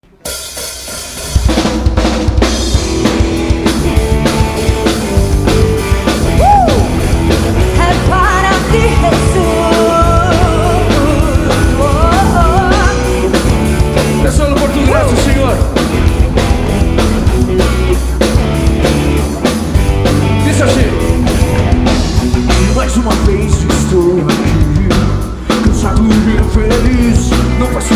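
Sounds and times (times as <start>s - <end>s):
live band playing: 0.1s - 27.9s.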